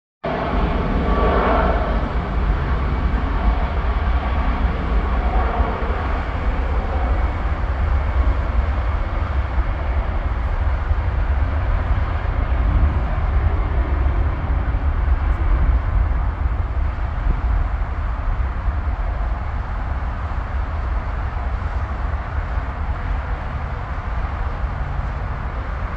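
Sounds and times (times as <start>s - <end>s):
jet airliners taxiing: 0.3s - 25.9s.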